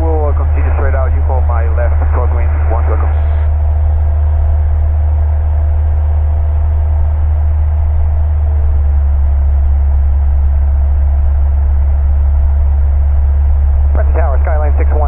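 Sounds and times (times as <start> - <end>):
aircraft propeller engine droning: 0.0 - 15.0.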